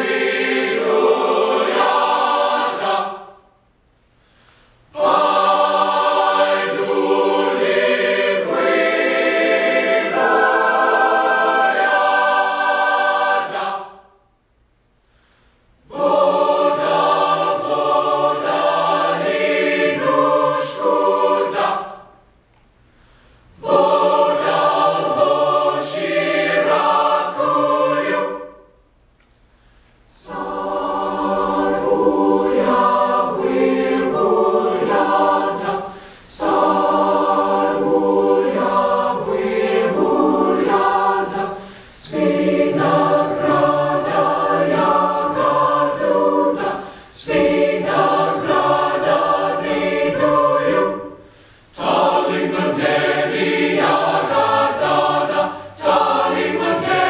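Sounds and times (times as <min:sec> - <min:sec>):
choir singing: 0:00.0 - 0:03.6, 0:04.9 - 0:14.2, 0:15.8 - 0:22.2, 0:23.6 - 0:28.9, 0:30.1 - 0:57.0.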